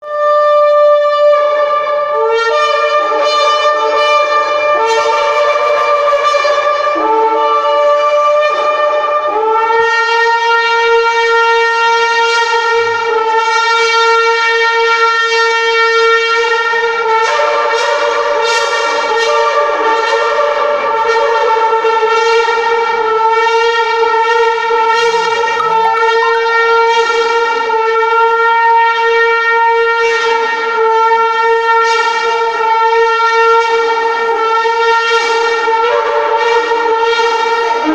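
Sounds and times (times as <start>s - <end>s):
shofar blasts: 0.0s - 37.9s.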